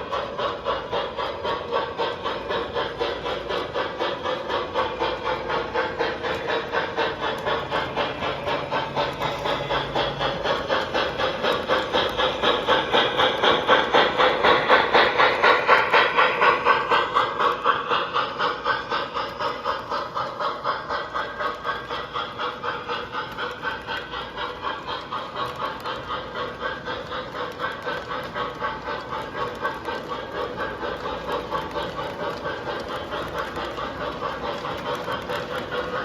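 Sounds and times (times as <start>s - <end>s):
model steam locomotive chuffing: 0.0s - 36.0s
steam hiss: 0.0s - 36.0s.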